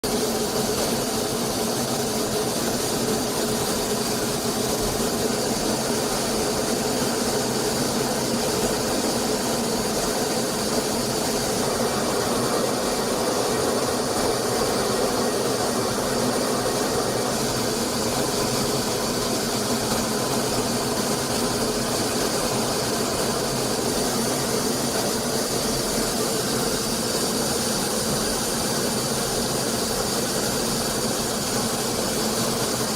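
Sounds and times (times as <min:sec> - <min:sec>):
jet aircraft cabin noise: 0:00.4 - 0:32.9.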